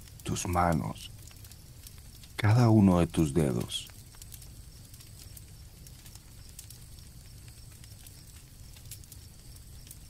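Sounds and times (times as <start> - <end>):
campfire crackling and popping: 0.0 - 10.0
crickets chirping: 0.0 - 10.0.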